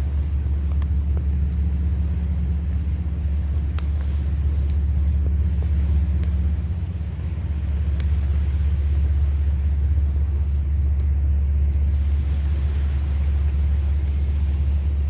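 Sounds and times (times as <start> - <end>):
campfire crackling: 0.0 - 15.0
waves breaking on shore: 0.0 - 15.0.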